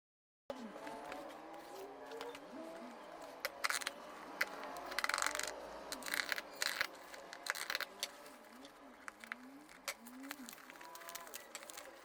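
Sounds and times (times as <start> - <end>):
packaging rustling and scraping: 0.9 - 12.0.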